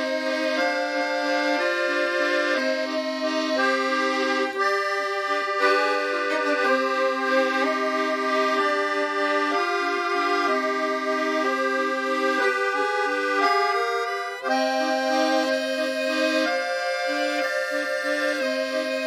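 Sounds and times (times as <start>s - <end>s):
accordion music: 0.0s - 19.0s.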